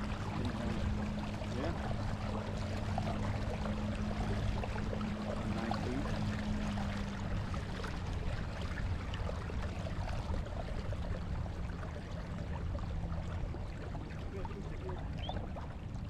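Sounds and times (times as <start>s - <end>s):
water lapping around kayak: 0.0s - 16.0s.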